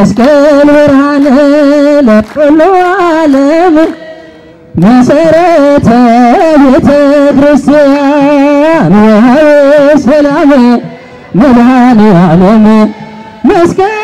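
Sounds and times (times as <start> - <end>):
solo voice chanting a hymn: 0.0 - 14.0.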